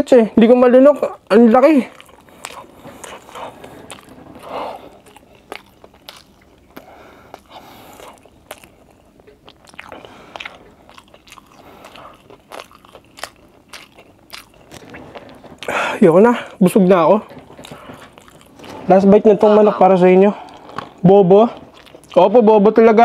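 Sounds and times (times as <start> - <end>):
person chewing food: 1.1 - 22.3.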